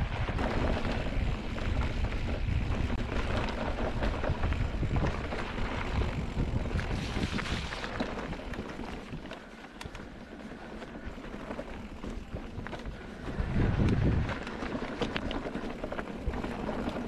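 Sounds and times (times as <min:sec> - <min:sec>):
wind buffeting microphone: 0:00.0 - 0:09.3, 0:12.0 - 0:16.5
bike rattling on trail: 0:00.0 - 0:17.0.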